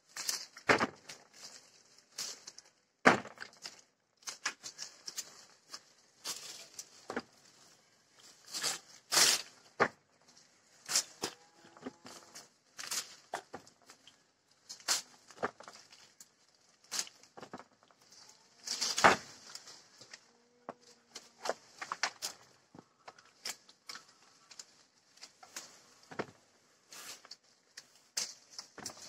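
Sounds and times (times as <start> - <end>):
leaves and branches rustling: 0.0 - 29.0
branches snapping: 0.1 - 7.4, 10.8 - 29.0.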